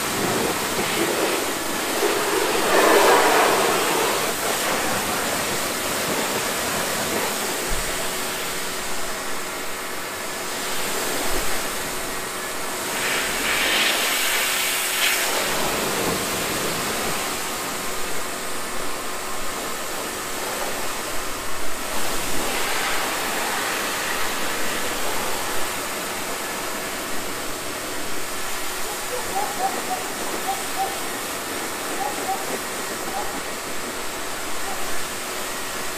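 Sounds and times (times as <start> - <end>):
pressure washer spraying water: 0.0 - 35.9.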